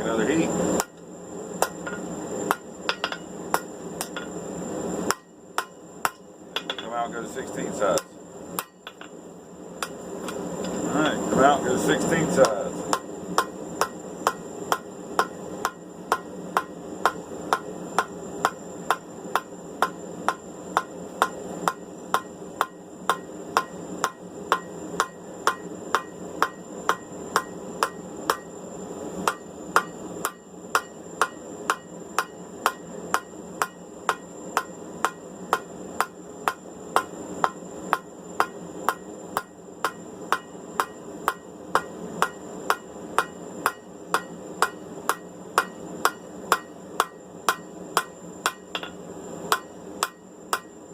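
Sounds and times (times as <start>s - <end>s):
hammer striking hot steel on anvil: 0.8s - 1.0s, 1.6s - 4.4s, 5.0s - 7.1s, 7.9s - 9.2s, 11.9s - 28.6s, 29.2s - 50.8s.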